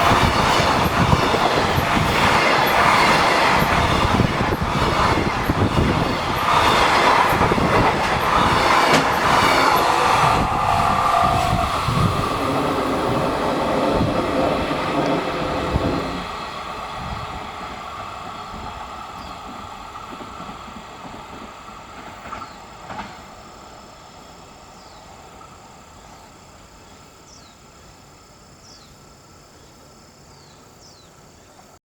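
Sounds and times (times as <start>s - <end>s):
freight train wheel noise: 0.0s - 29.3s.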